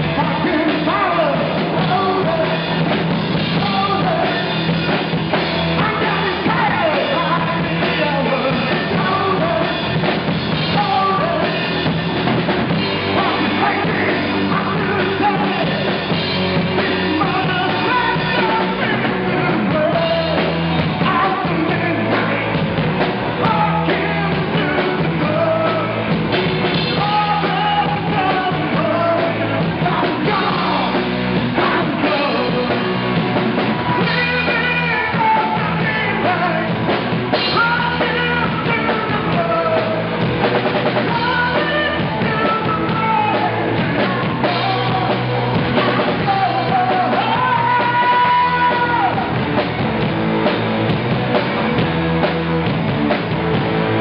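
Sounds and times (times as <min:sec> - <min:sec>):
man singing into microphone: 0:00.0 - 0:04.8, 0:05.7 - 0:10.0, 0:10.6 - 0:11.7, 0:13.1 - 0:26.1, 0:26.8 - 0:40.2, 0:41.0 - 0:49.4
live rock band playing: 0:00.0 - 0:54.0.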